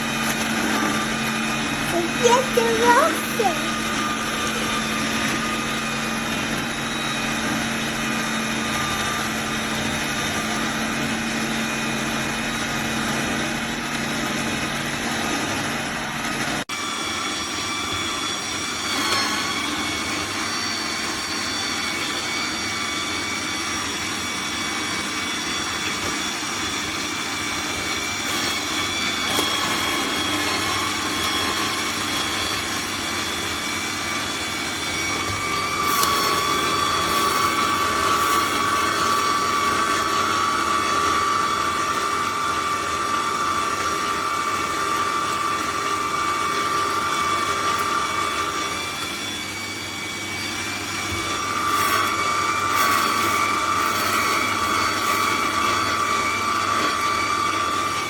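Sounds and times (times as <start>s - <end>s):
juicer motor whining: 0.0s - 58.0s.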